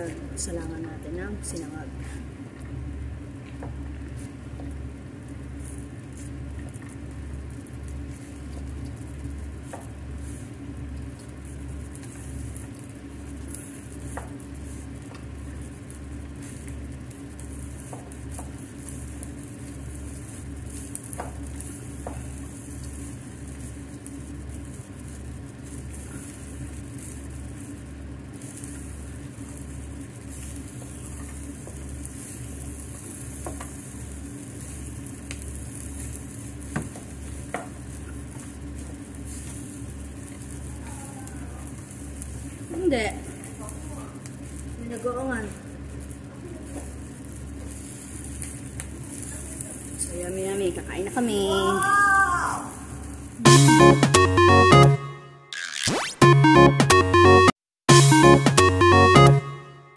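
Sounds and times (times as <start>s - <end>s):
rice sizzling in a frying pan: 0.0s - 53.6s.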